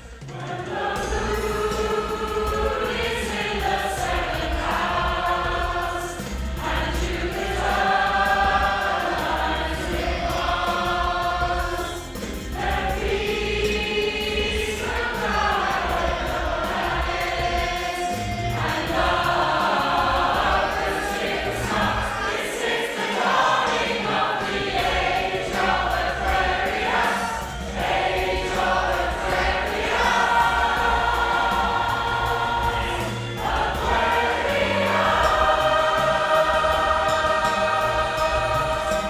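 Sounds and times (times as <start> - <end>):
women's choir singing: 0.0 - 39.0.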